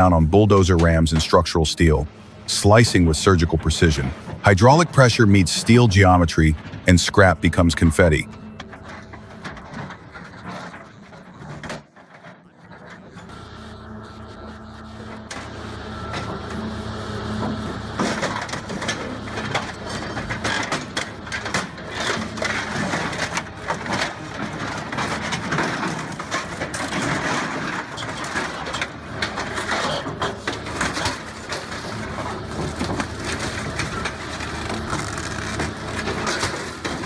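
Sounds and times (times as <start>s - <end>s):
hydraulic shear crunching metal: 0.0s - 37.0s
machine engine drone: 0.0s - 37.0s.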